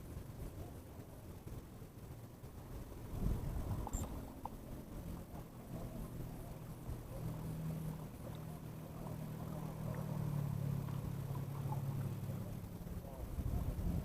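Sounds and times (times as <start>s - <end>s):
motorboat engine humming: 0.0s - 14.0s.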